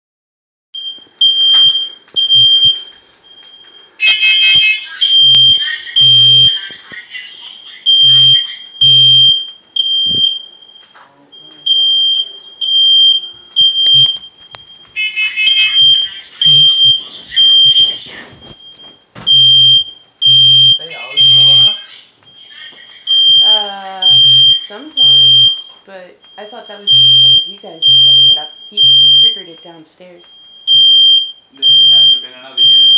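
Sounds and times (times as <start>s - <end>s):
smoke alarm beeping: 0.8s - 6.8s, 7.8s - 32.9s.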